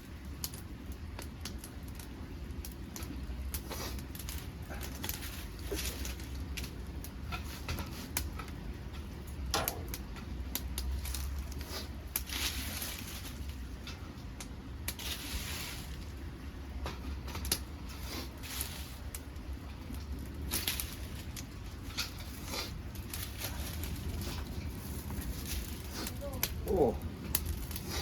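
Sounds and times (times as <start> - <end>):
low steady stove rush: 0.0 - 28.0
wood fire crackling and popping: 0.0 - 28.0.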